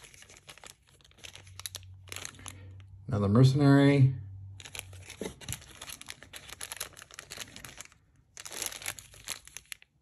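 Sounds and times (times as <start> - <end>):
plastic bag crinkling: 0.0 - 3.0, 4.5 - 10.0.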